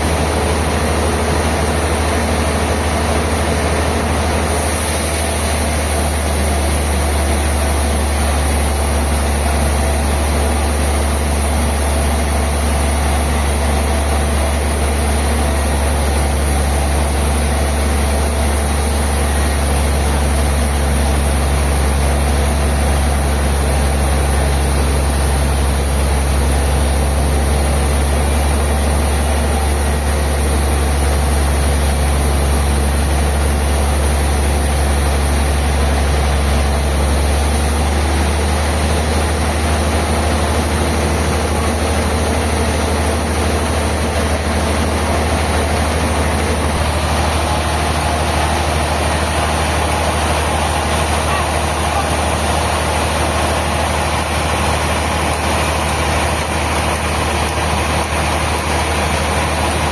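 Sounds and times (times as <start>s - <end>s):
sawmill machinery engine drone: 0.0s - 59.9s.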